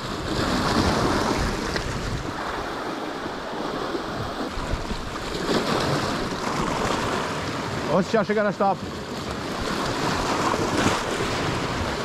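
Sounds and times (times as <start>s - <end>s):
waves breaking on rocky shore: 0.0s - 12.0s.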